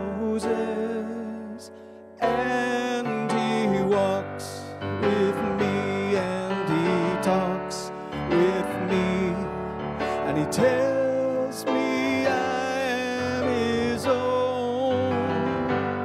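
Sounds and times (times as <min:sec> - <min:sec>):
keyboard chords: 0:00.0 - 0:16.0
man singing a hymn: 0:00.0 - 0:16.0.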